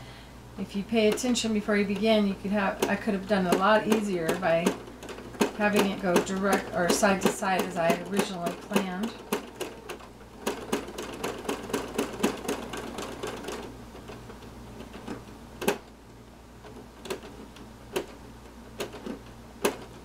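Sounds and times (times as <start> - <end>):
sewing machine stitching: 1.0 - 15.9, 18.8 - 20.0.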